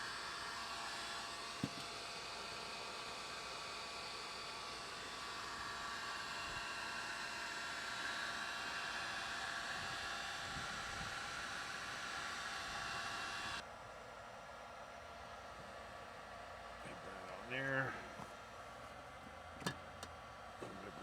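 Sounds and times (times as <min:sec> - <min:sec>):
electric fan motor whirring: 0:00.0 - 0:21.0.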